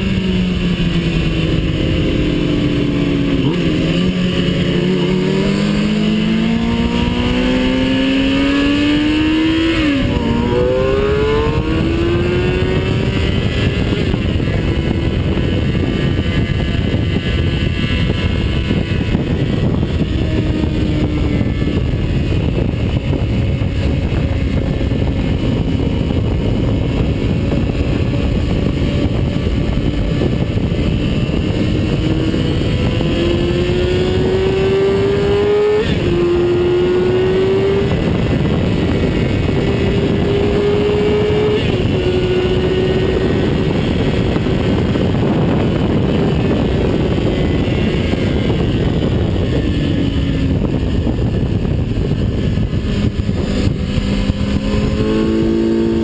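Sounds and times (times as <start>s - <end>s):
heavy wind noise: 0.0s - 56.0s
race car engine revving: 0.0s - 56.0s.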